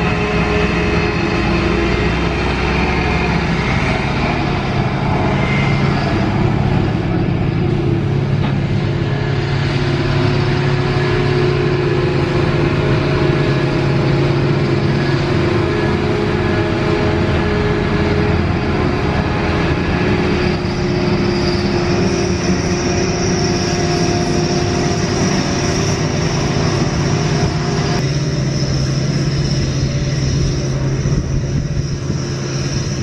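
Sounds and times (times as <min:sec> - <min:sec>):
engines droning: 0:00.0 - 0:33.0.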